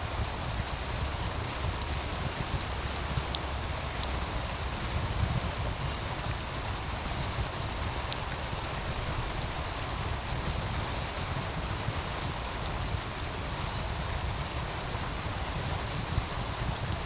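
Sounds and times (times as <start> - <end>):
stream flowing: 0.0 - 17.0
wood fire popping: 0.1 - 17.0.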